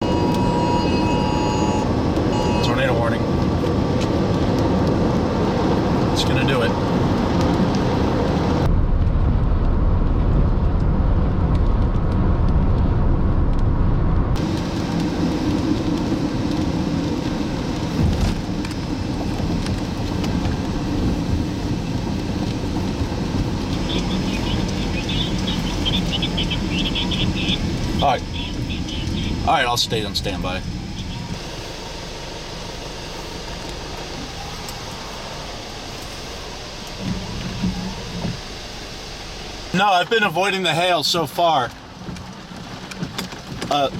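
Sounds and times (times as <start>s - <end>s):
wind and road noise rumble: 0.0s - 43.9s.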